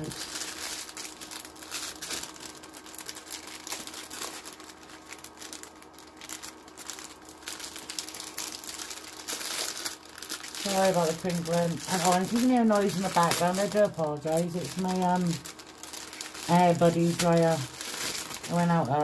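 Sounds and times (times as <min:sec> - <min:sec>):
dryer humming: 0:00.0 - 0:19.0
packaging crinkling: 0:00.0 - 0:19.0.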